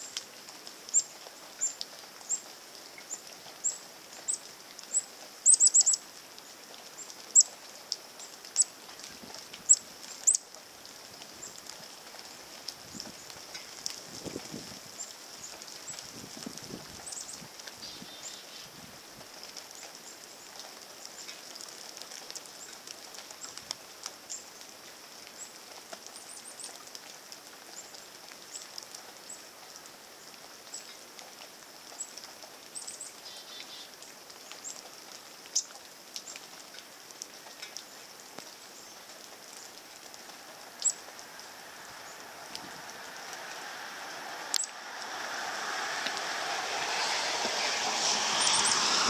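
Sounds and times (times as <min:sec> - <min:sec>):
light rain hiss: 0:00.0 - 0:49.0.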